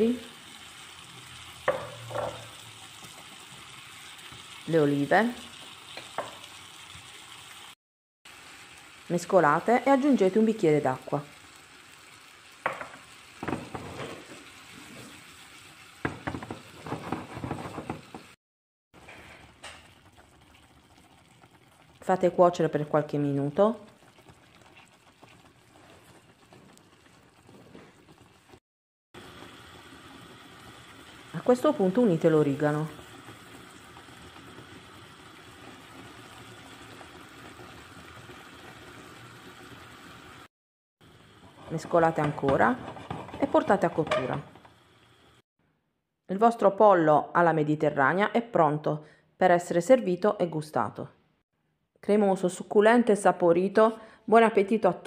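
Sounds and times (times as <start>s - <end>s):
food sizzling in a frying pan: 0.0s - 18.4s, 19.0s - 28.6s, 29.2s - 45.5s.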